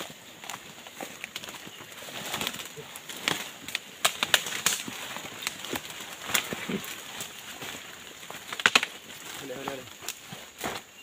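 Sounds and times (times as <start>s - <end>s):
twigs crackling and snapping: 0.0s - 11.0s.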